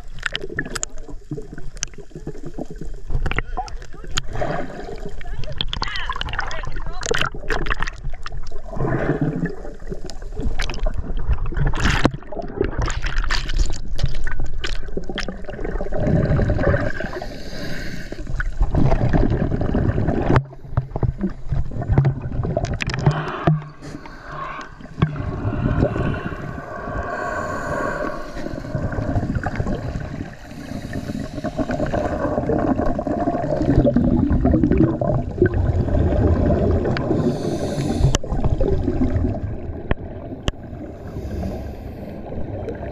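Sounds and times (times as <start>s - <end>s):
water gurgling and sloshing: 0.0s - 42.9s.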